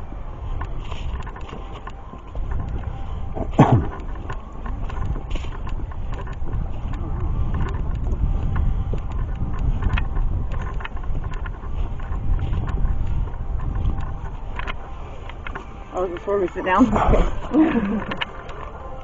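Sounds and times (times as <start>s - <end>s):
wind rumbling on microphone: 0.0s - 19.0s
small clicks and crunches: 0.4s - 19.0s.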